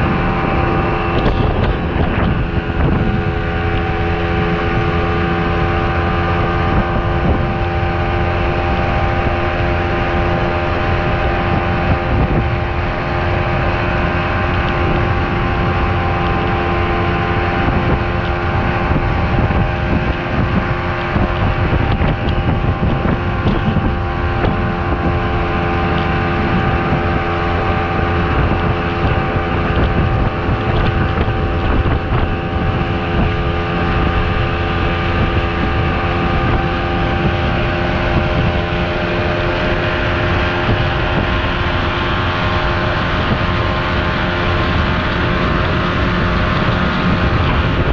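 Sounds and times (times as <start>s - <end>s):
outboard motor running: 0.0s - 47.9s
wind buffeting microphone: 0.0s - 47.9s.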